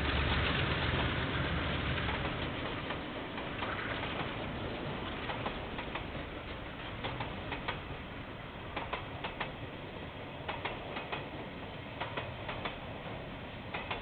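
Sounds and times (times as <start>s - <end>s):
freight train rumble: 0.0s - 14.0s
train wheels clicking over rail joints: 0.0s - 14.0s.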